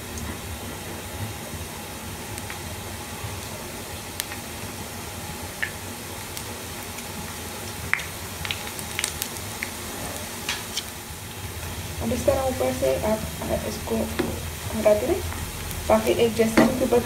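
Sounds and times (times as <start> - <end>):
batter sizzling in hot oil: 0.0 - 17.0.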